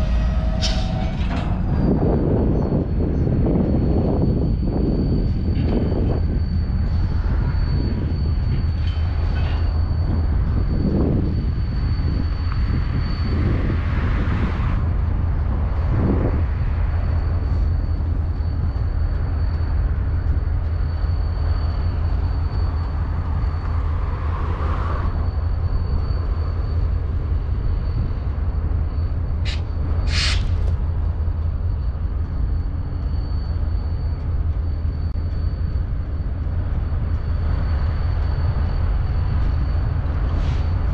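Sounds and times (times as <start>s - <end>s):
locomotive engine rumble: 0.0s - 40.9s
thin high whine: 0.0s - 40.9s.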